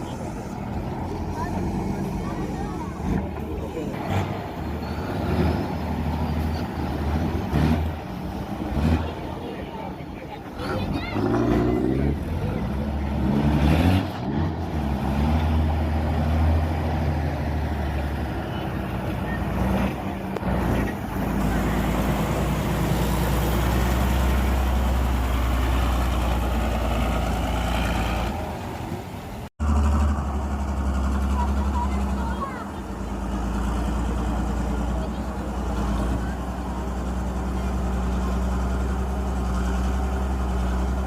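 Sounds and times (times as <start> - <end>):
truck diesel engine revving: 0.0 - 41.0.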